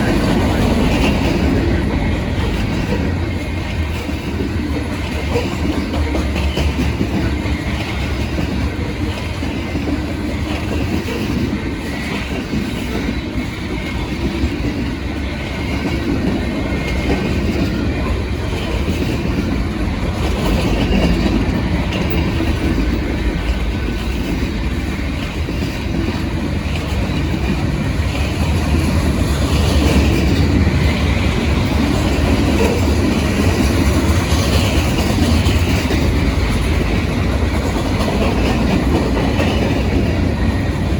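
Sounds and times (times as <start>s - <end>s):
freight train rolling past: 0.0s - 40.9s
wheels clacking over rail joints: 0.0s - 40.9s.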